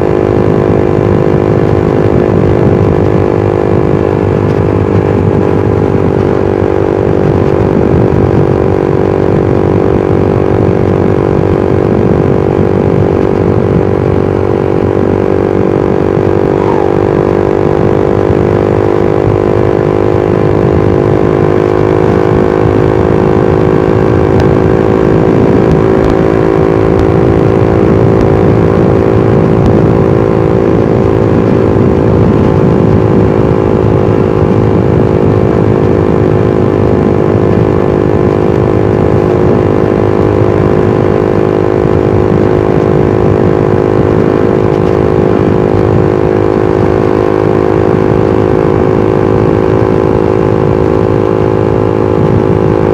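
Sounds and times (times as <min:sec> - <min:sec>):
motorcycle engine cruising: 0:00.0 - 0:52.9
wind and road noise: 0:00.0 - 0:52.9.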